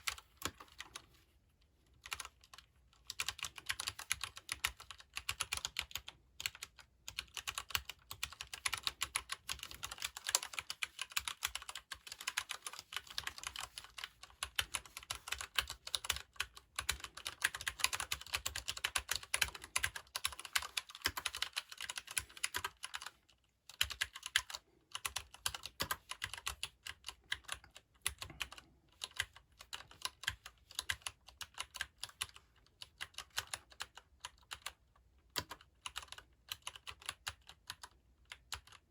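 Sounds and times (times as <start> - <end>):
fast keyboard typing: 0.0 - 1.2, 2.0 - 38.9.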